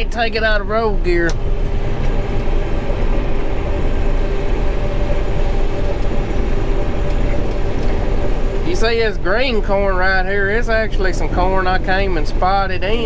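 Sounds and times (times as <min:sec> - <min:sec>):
combine harvester rumbling: 0:00.0 - 0:13.0.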